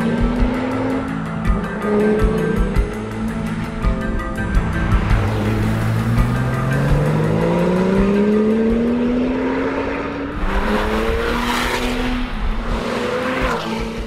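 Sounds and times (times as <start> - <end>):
sports car engine accelerating: 0.0 - 14.0.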